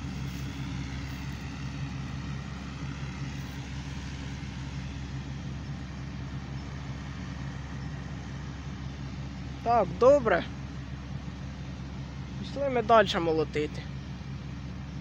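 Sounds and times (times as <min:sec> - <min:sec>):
combine harvester engine hum: 0:00.0 - 0:15.0.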